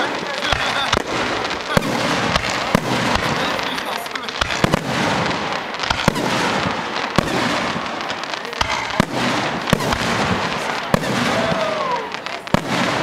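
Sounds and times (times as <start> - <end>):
fireworks bangs: 0.0 - 13.0
fireworks explosions and echoes: 0.0 - 13.0.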